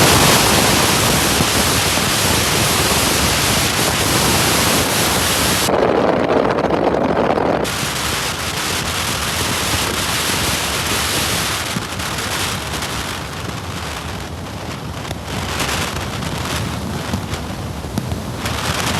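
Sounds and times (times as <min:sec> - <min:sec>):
wind rushing past a car: 0:00.0 - 0:18.9.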